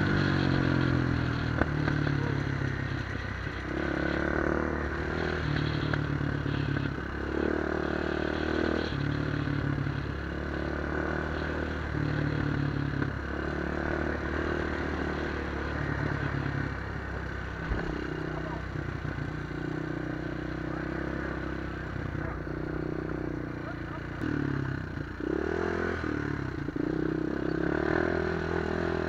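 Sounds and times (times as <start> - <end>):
clattering on rough road: 0.0 - 24.4
atv engine revving under load: 0.0 - 29.0.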